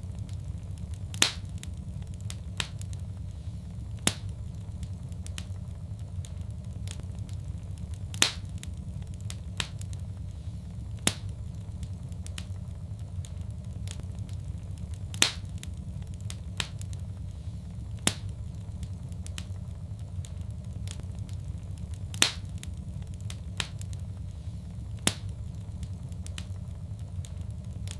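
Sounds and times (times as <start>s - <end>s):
fire crackling pops: 0.0s - 27.9s
fire low rumble: 0.0s - 27.9s.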